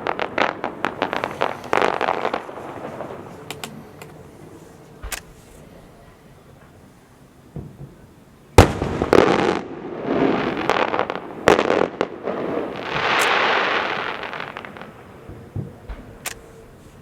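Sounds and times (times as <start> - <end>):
firework bangs: 0.0 - 5.2, 7.5 - 16.7
fireworks crackling: 0.0 - 5.7, 7.6 - 17.0.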